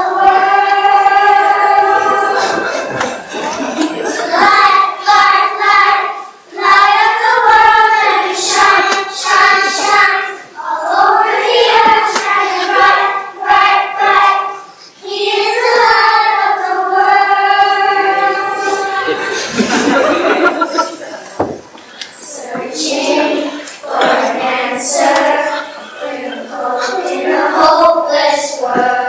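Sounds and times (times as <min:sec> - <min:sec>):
children singing in unison: 0:00.0 - 0:29.0.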